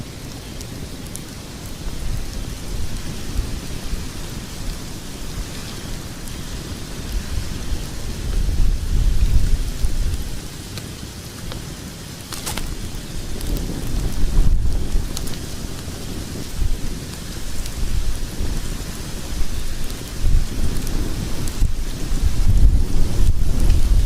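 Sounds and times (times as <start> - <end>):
fire crackling: 0.0 - 24.0
low rumble of flames: 0.0 - 24.0.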